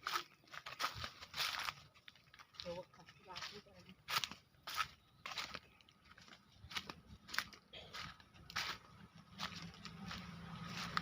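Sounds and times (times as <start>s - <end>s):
footsteps crunching on dry ground: 0.0s - 11.0s.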